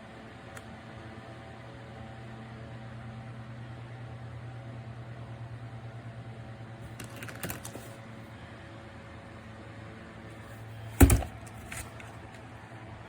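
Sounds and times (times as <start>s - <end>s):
desk fan motor hum: 0.0s - 13.0s.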